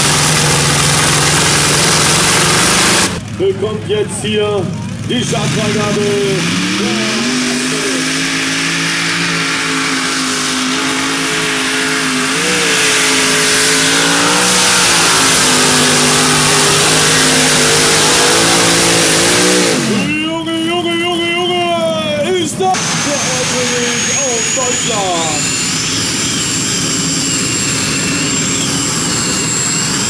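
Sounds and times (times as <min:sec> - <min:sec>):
pulling tractor engine at full throttle: 0:00.0 - 0:30.0.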